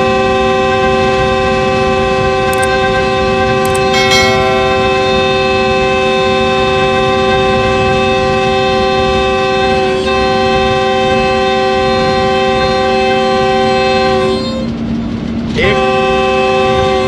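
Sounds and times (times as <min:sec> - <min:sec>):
locomotive air horn blast: 0:00.0 - 0:14.8, 0:15.6 - 0:17.0
locomotive engine running: 0:00.0 - 0:17.0.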